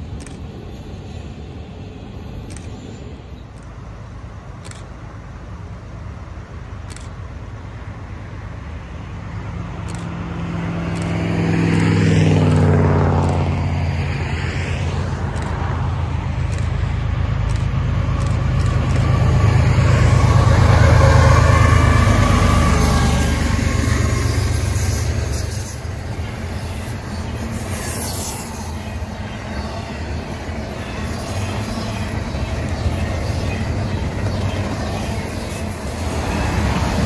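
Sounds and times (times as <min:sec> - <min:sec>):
diesel locomotive engine drone: 0:00.0 - 0:37.0.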